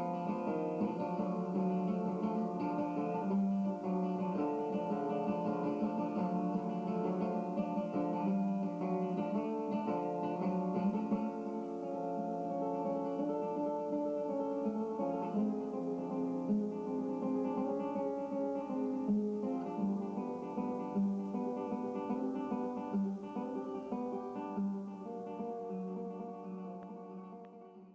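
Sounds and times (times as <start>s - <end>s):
fingerpicked acoustic guitar: 0.0s - 27.9s.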